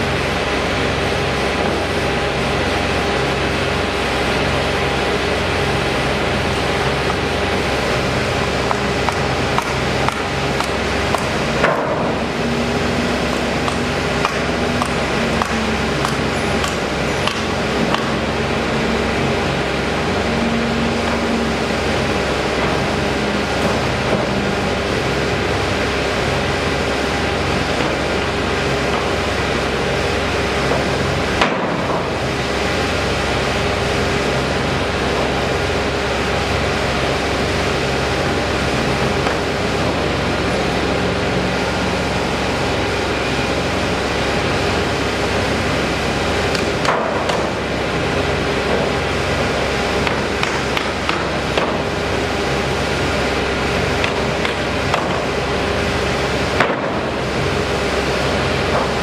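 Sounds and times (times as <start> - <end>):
mechanical drone: 0.0 - 59.0.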